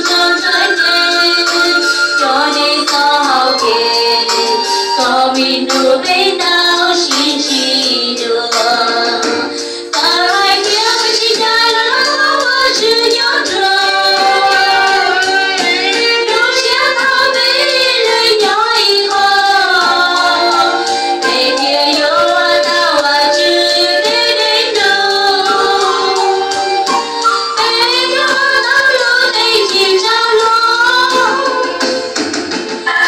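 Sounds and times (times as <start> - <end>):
women singing hymn into microphones: 0.0 - 27.0, 27.6 - 32.0.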